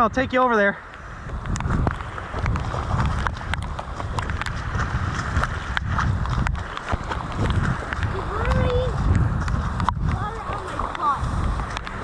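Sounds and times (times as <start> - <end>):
wind rumbling on microphone: 0.0 - 12.0
footsteps in wet mud: 0.9 - 12.0.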